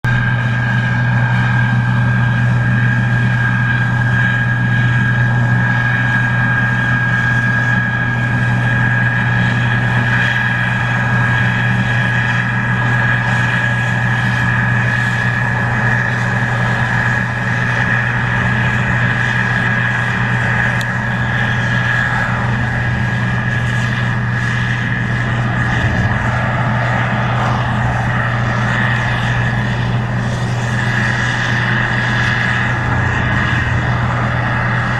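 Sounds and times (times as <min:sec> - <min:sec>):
combine engine hum: 0:00.0 - 0:34.9
steady high whine: 0:00.0 - 0:34.9.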